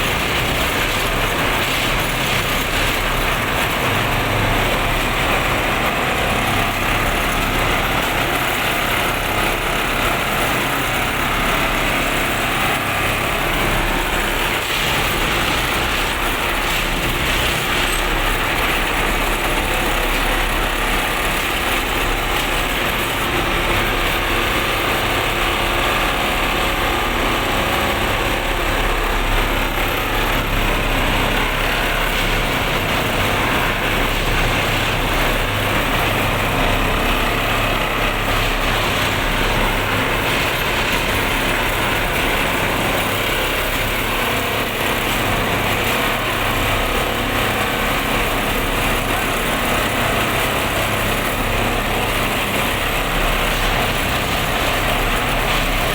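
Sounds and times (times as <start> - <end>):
industrial machine running: 0.0 - 55.9.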